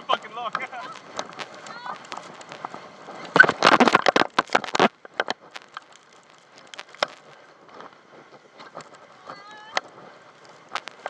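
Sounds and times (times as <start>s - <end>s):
water splashing against inflatable: 0.0s - 11.0s
water drips and pops: 0.2s - 7.9s, 9.7s - 11.0s.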